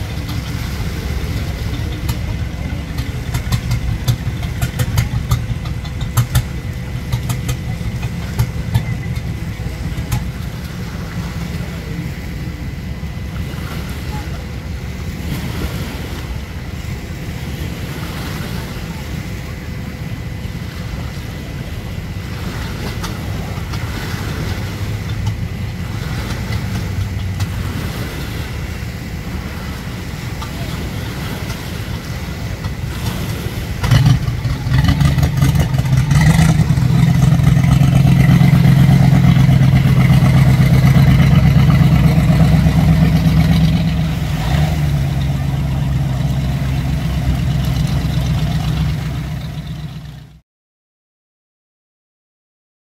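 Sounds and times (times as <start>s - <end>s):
motorboat engine: 0.0s - 50.4s.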